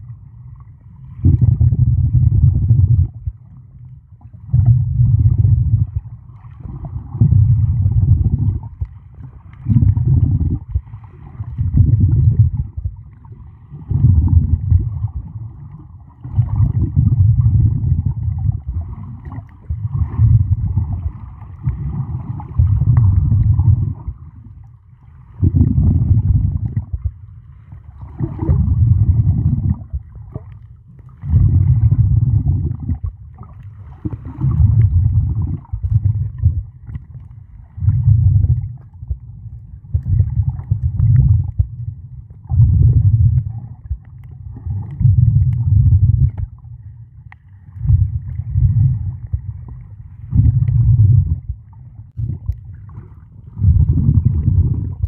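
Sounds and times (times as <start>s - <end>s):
muffled underwater water sloshing: 0.0s - 55.0s.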